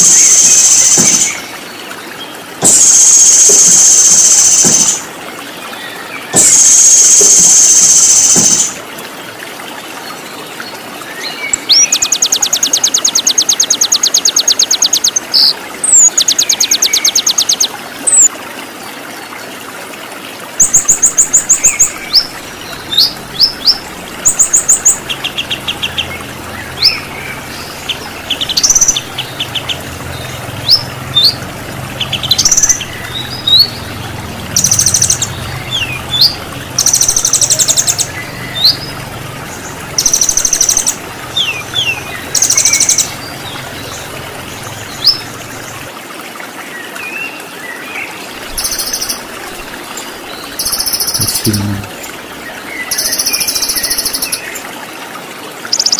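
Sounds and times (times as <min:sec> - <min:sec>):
songbirds calling: 0:00.0 - 0:18.3, 0:20.6 - 0:46.0, 0:46.6 - 0:54.8
running water rushing: 0:00.0 - 0:55.9.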